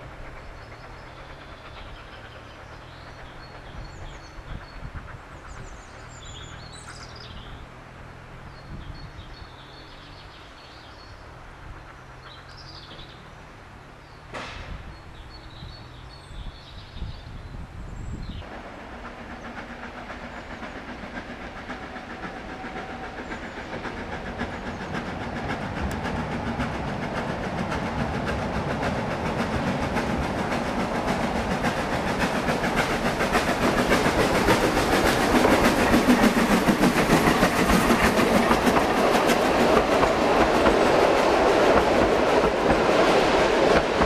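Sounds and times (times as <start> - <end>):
birds chirping: 0.0 - 7.8, 8.4 - 44.0
steam locomotive clatter: 0.0 - 13.3, 14.2 - 17.6, 18.2 - 44.0.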